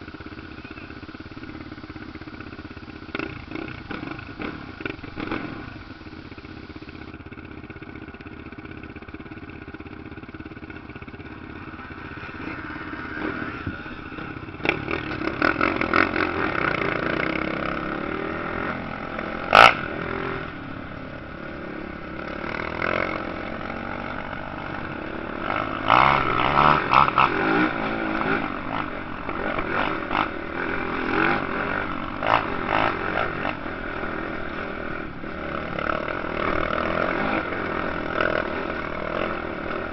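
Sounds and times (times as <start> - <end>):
motocross engines revving: 0.0 - 7.2, 10.9 - 39.9.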